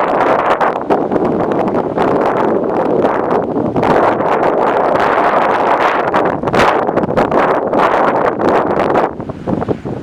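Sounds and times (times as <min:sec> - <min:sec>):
gusty wind buffeting microphone: 0:00.0 - 0:10.0.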